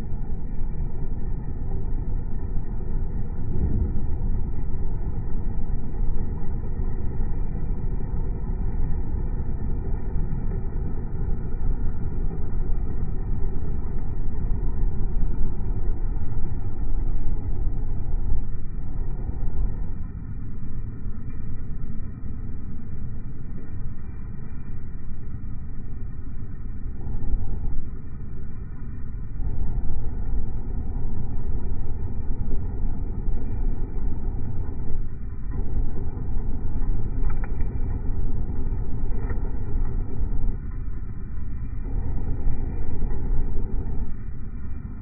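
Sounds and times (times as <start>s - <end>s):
electric heater fan running: 0.0s - 45.0s.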